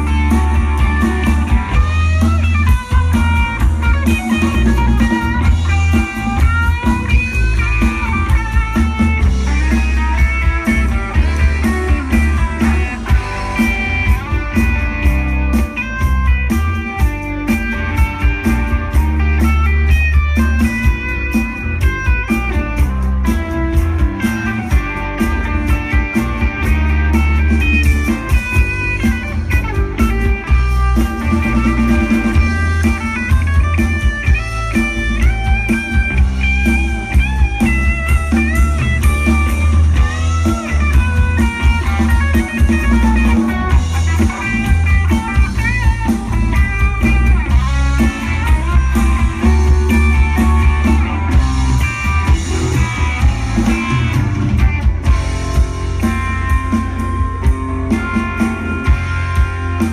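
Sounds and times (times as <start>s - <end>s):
drum kit: 0.0s - 59.9s
electric guitar lead: 0.0s - 59.9s
rhythm guitar: 0.0s - 59.9s.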